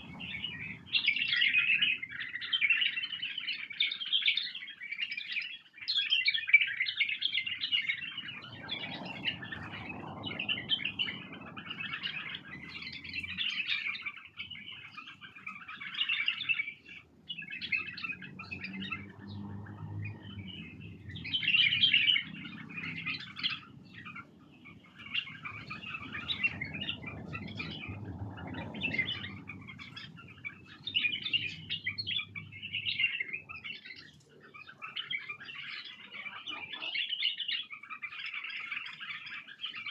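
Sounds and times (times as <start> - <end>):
birds chattering chirps: 0.0 - 39.9.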